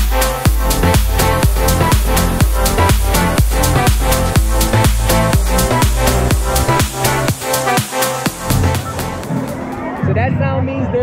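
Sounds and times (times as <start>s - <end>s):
electronic dance music: 0.0s - 10.3s.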